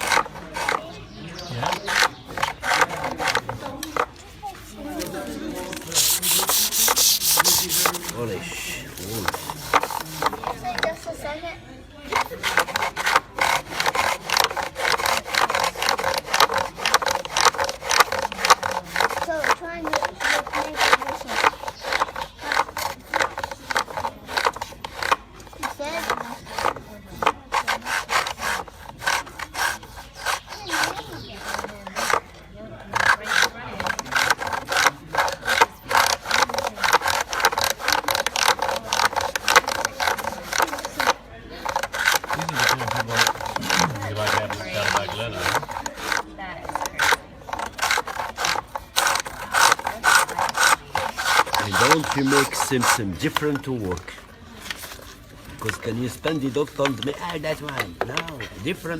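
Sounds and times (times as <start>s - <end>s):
tool scraping spinning wood: 0.0s - 58.9s.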